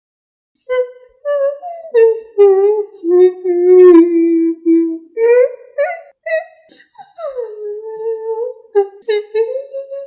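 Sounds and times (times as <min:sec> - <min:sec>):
ghostly voice sobbing and wailing: 0:00.7 - 0:10.0.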